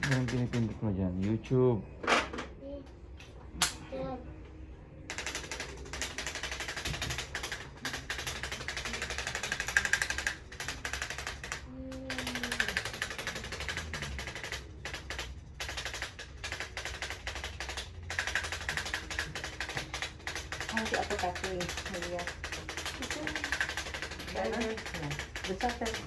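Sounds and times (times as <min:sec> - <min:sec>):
rapid machine-like tapping: 0:00.0 - 0:00.8, 0:05.1 - 0:26.0.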